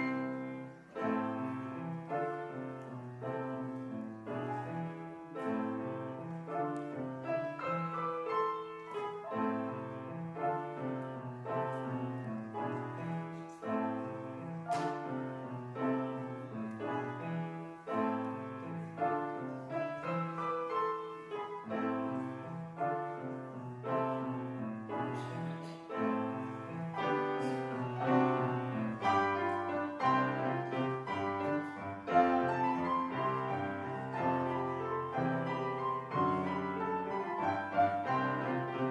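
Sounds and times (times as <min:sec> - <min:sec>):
piano: 0:00.0 - 0:38.9.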